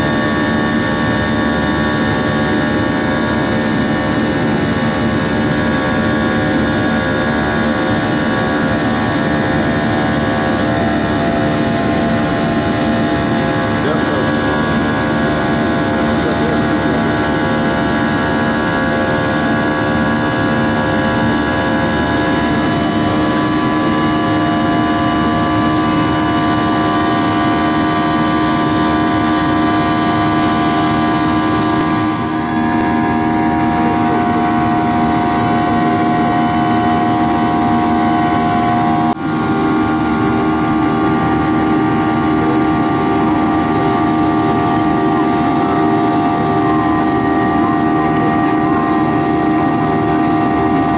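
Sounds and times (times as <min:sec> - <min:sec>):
jet engines droning: 0:00.0 - 0:50.9
whining tones: 0:00.0 - 0:50.9.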